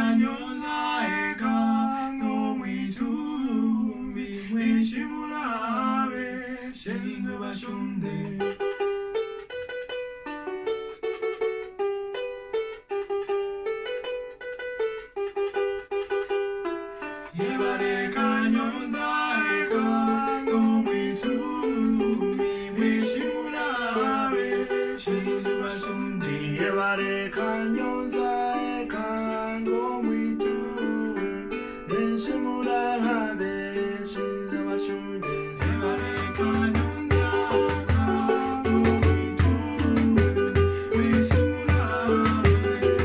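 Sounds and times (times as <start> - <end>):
plucked string instrument melody: 0.0 - 43.0.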